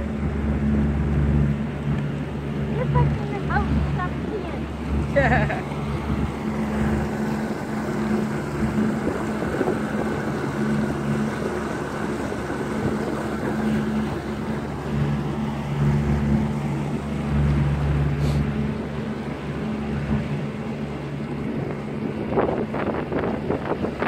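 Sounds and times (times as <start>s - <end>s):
outboard motor humming: 0.0s - 24.0s.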